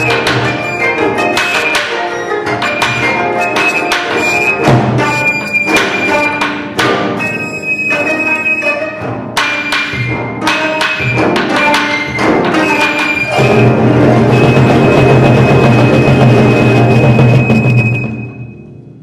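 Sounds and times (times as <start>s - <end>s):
high sustained flute: 0.0s - 9.0s, 9.6s - 18.8s
zithers playing plucked figures: 0.0s - 18.0s
percussion strokes: 0.0s - 19.0s.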